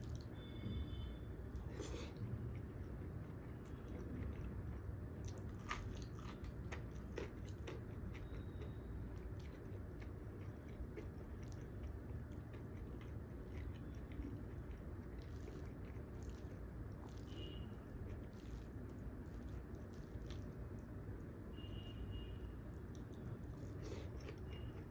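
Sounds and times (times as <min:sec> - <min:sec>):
person chewing crunchy food: 0:01.5 - 0:21.1, 0:22.7 - 0:24.9.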